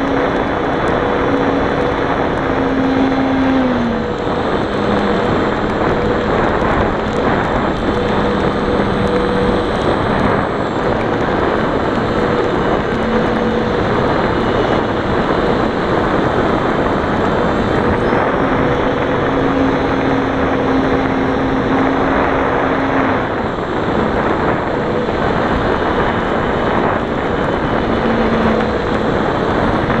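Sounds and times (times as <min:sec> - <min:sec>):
aircraft engine running: 0:00.0 - 0:30.0
faint humming tones: 0:00.0 - 0:30.0
rush of wind noise: 0:00.0 - 0:30.0.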